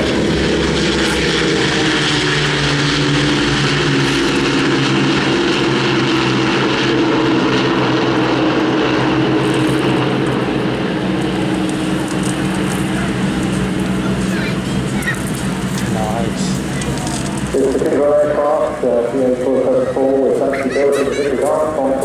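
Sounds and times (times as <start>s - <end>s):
propeller aircraft engines droning: 0.0s - 22.0s.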